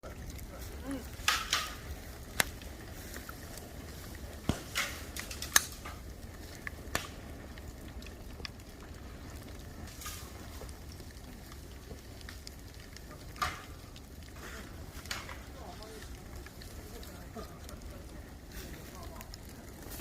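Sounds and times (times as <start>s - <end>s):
bonfire crackling: 0.0s - 20.0s
low steady rumble: 0.0s - 20.0s
sharp pops from fire: 0.0s - 20.0s.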